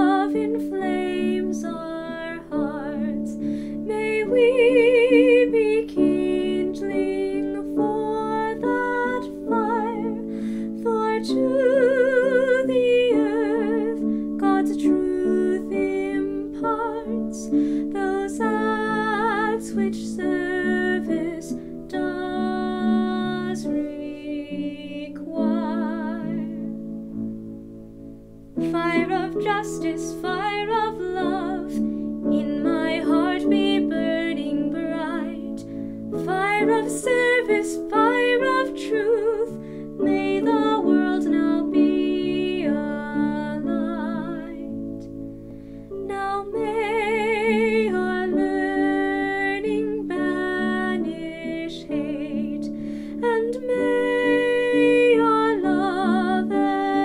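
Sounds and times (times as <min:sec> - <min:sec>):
person singing with vibrato: 0:00.0 - 0:26.9, 0:28.6 - 0:45.0, 0:46.0 - 0:57.0.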